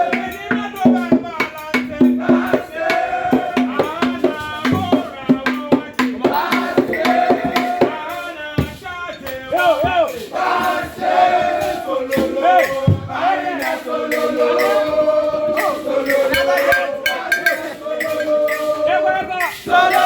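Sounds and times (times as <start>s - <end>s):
group of voices chanting: 0.0s - 8.8s, 9.6s - 20.0s
hand percussion strikes: 0.0s - 20.0s.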